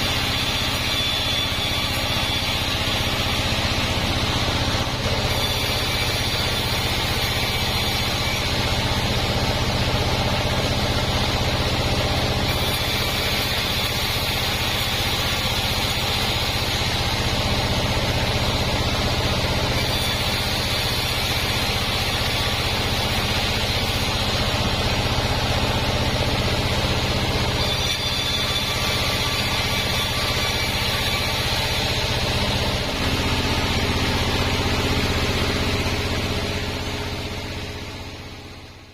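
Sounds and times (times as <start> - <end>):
band saw cutting noise: 0.0 - 38.7
motor hum: 0.0 - 38.9.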